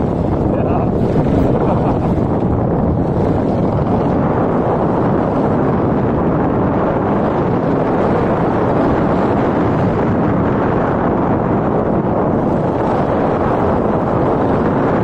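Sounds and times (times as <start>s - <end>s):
motorcycle engine running: 0.0s - 15.0s
wind rushing on microphone: 0.0s - 15.0s.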